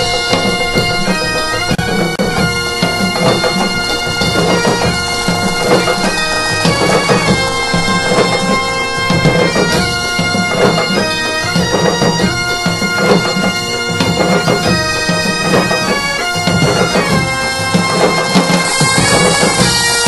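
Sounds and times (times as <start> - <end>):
bagpipes playing melody: 0.0 - 20.0
drums: 0.0 - 20.0.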